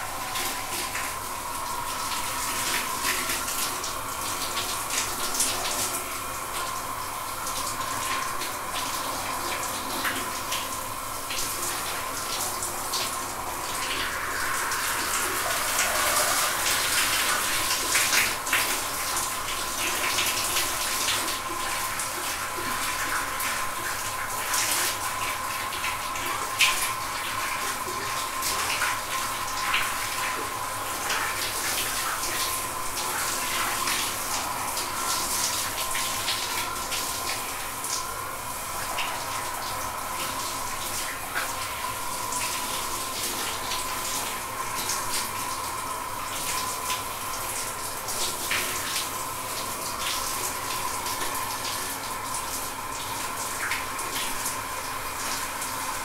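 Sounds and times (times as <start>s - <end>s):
shower water spraying: 0.0s - 56.0s.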